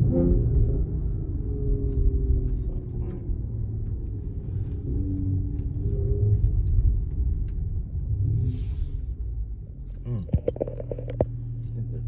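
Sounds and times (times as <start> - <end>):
car engine rumbling: 0.0 - 12.0
road noise: 0.0 - 12.0.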